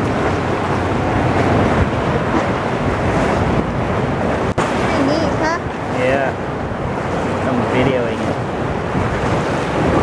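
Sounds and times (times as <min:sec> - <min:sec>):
sea water washing around kayak: 0:00.0 - 0:10.0
wind buffeting microphone: 0:00.0 - 0:10.0.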